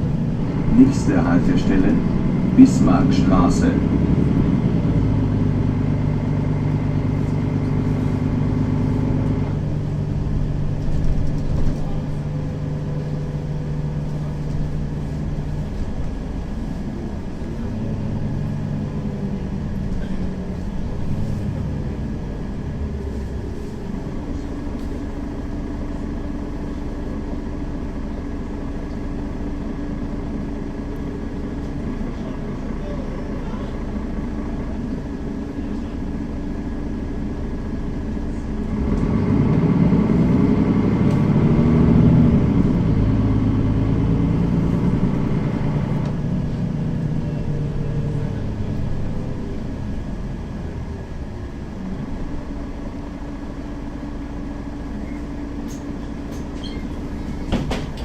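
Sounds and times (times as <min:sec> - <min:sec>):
bus diesel engine hum: 0:00.0 - 0:58.0
road rumble: 0:00.0 - 0:58.0.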